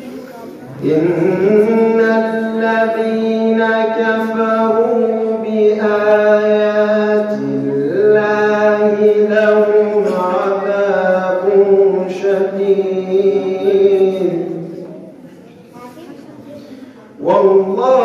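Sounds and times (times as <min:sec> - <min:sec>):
man reciting melodically: 0:00.6 - 0:15.3, 0:17.2 - 0:18.0.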